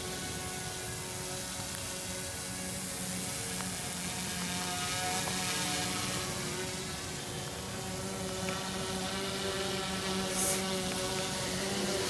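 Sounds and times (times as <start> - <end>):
drone motors and propellers whirring: 0.0 - 12.0.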